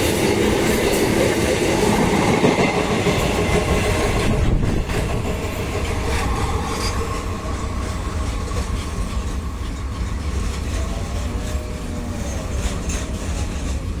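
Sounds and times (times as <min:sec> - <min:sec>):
freight train rumble: 0:00.0 - 0:14.0
wheels clattering over rail joints: 0:00.0 - 0:14.0.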